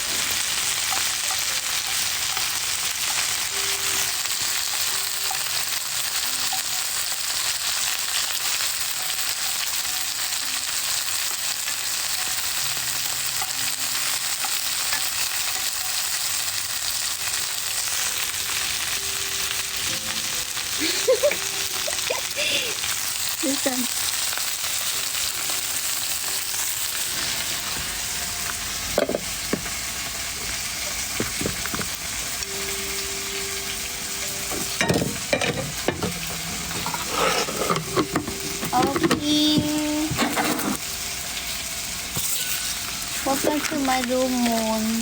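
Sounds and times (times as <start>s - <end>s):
meat sizzling over fire: 0.0s - 45.0s.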